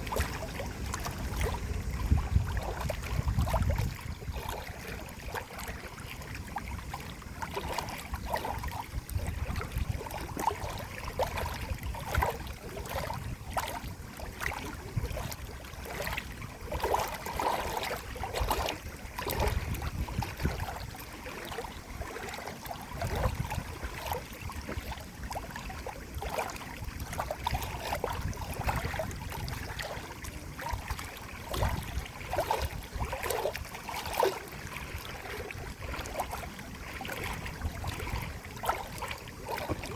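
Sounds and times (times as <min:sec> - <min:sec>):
flowing water with gurgles: 0:00.0 - 0:39.9.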